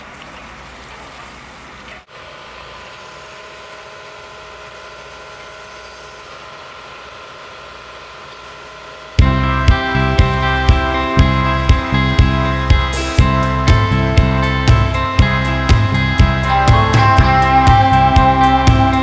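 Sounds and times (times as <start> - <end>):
backhoe engine running: 0.0 - 19.0
excavator whine over engine: 2.2 - 19.0.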